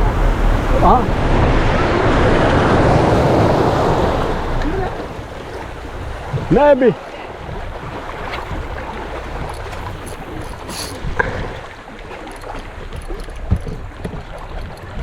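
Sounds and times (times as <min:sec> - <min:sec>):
low rumble: 0:00.0 - 0:15.0
water noise: 0:00.0 - 0:15.0
wind: 0:00.0 - 0:15.0.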